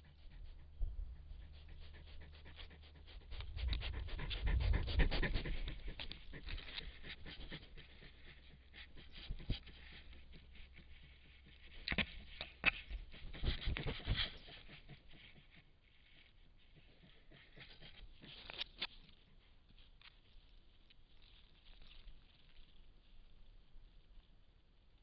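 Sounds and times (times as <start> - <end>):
porcupine snuffling and sniffing: 0.0 - 22.9
bumps and scrapes against camera: 0.0 - 24.0.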